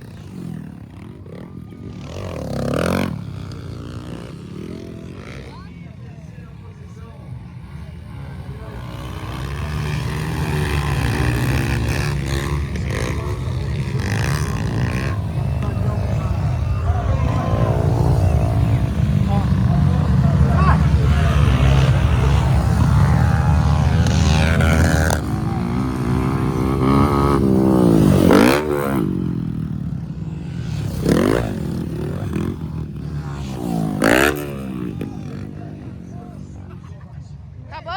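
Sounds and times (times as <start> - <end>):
motorcycle engine running: 0.0 - 36.4.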